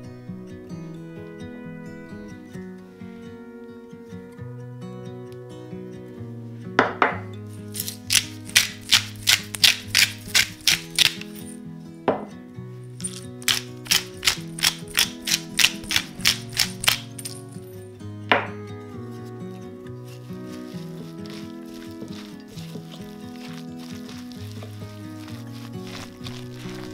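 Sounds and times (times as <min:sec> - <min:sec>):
soft background music: 0:00.0 - 0:26.9.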